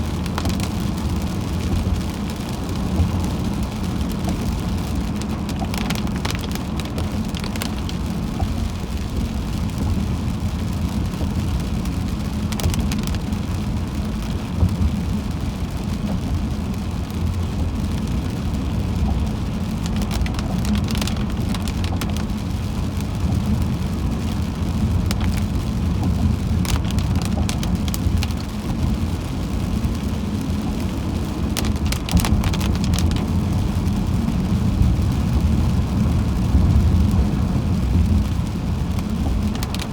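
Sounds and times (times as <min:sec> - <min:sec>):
car road rumble: 0:00.0 - 0:39.9
rain hitting car: 0:00.0 - 0:39.9.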